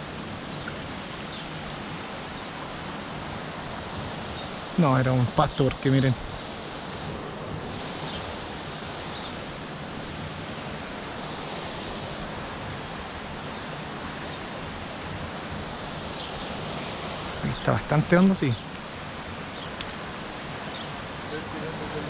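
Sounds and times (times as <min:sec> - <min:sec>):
fast-flowing river water rushing: 0:00.0 - 0:22.0.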